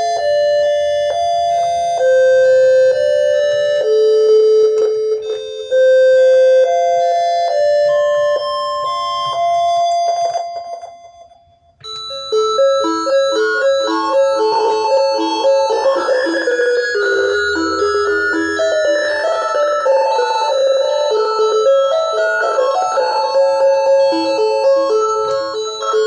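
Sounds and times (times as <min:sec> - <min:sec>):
electronic keyboard bell-like notes: 0:00.0 - 0:26.0.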